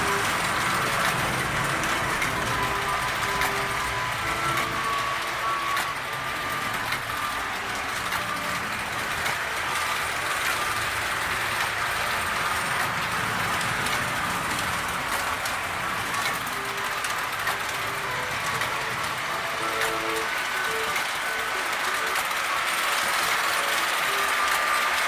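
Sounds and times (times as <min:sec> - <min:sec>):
clicking over rail joints: 0:00.0 - 0:25.0
toy train motor whir: 0:00.0 - 0:25.0.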